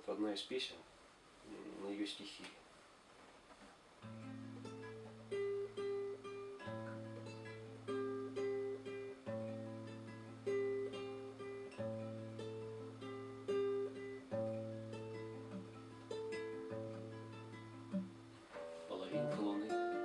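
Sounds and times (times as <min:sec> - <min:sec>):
fingerpicked acoustic guitar: 0:03.9 - 0:20.0.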